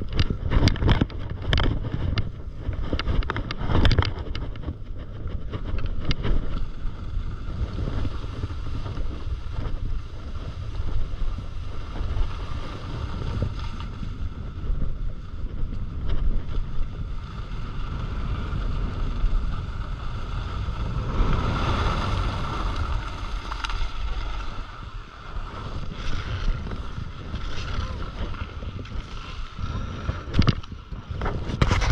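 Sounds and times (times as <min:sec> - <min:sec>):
wind rushing over microphone: 0:00.0 - 0:31.9
skis running on snow: 0:00.3 - 0:31.9.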